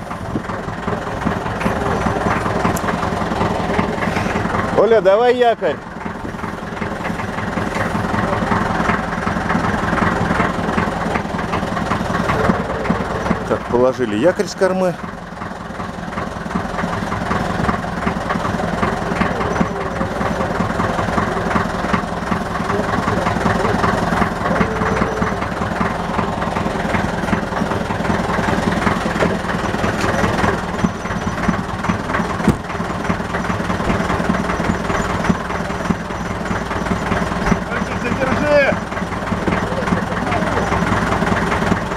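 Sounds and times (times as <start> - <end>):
motorboat engine at low revs: 0.0 - 41.9.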